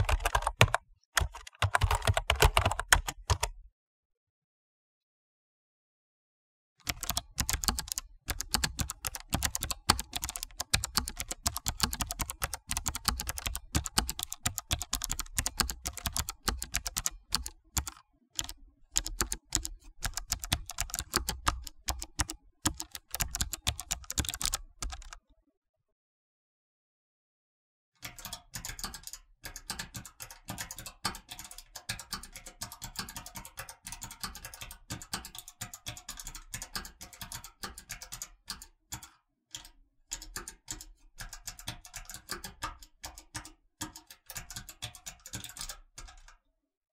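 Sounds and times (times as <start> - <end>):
mechanical keyboard typing: 0.0 - 3.6, 6.8 - 25.2, 28.0 - 46.3.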